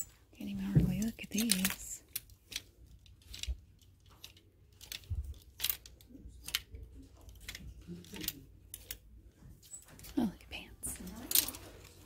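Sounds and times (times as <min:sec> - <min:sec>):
plastic hangers clicking: 0:00.0 - 0:09.0, 0:11.0 - 0:12.0.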